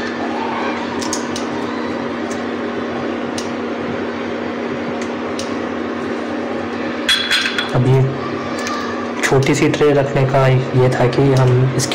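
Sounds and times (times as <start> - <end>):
appliance hum with fan: 0.0 - 11.9.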